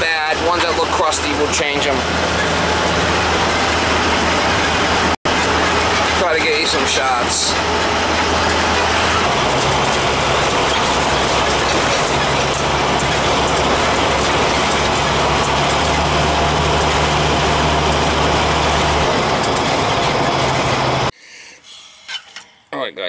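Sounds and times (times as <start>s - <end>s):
engine low drone: 0.0s - 21.1s
road noise: 0.0s - 21.2s.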